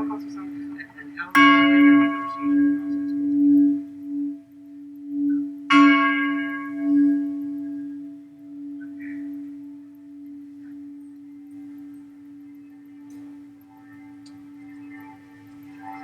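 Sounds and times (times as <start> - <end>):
large church bell ringing: 0.0 - 16.0.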